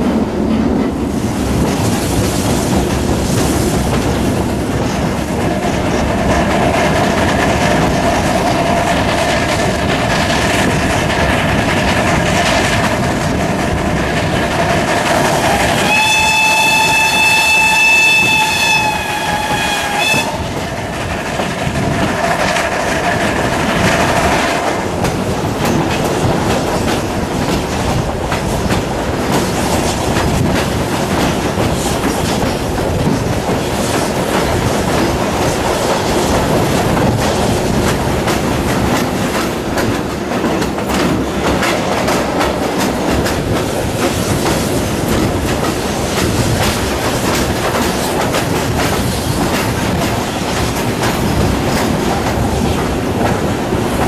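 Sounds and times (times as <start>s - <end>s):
steady train rumble: 0.0s - 54.0s
train wheels clattering over rail joints: 0.0s - 54.0s.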